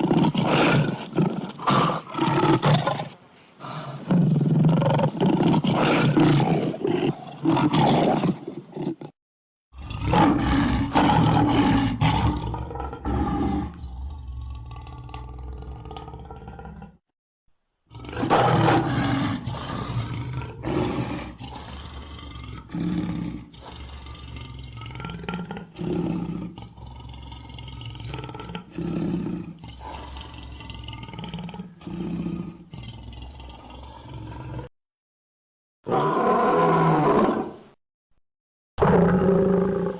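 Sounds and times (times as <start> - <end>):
cartoon lion roaring: 0.0 - 9.2, 9.8 - 17.0, 17.9 - 34.7, 35.8 - 37.8, 38.8 - 39.9.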